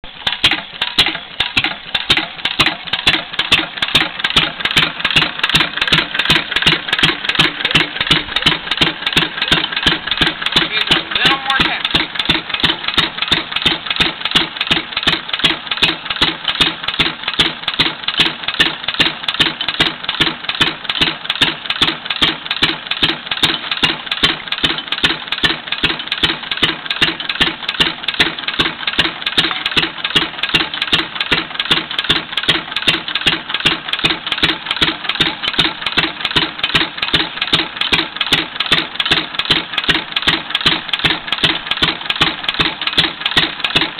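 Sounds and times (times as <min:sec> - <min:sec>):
old stationary engine running: 0:00.0 - 0:43.9.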